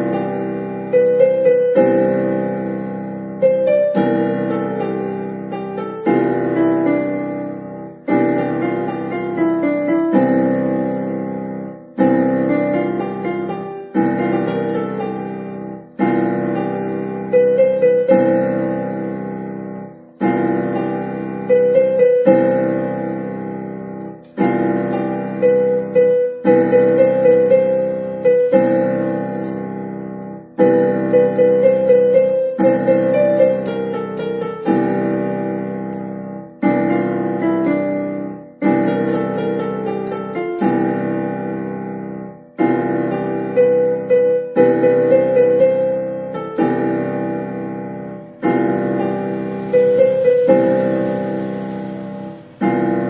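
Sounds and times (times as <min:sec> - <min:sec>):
electronic keyboard piano melody: 0:00.0 - 0:53.0.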